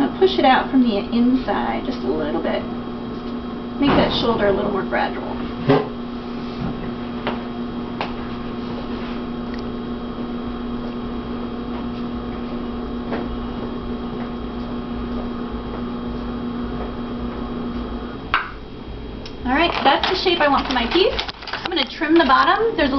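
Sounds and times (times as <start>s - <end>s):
potter's wheel humming: 0.0s - 22.9s.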